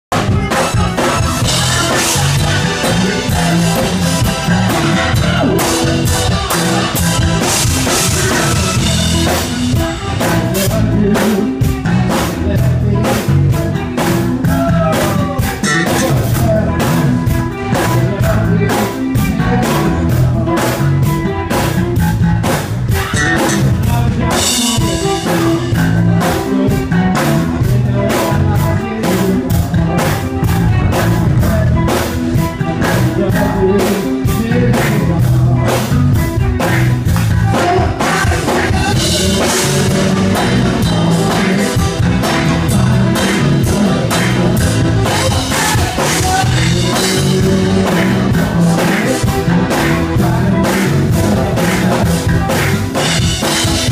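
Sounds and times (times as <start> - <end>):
drum kit beat: 0.0 - 53.9
live band playing: 0.0 - 53.9
person singing: 0.1 - 53.9.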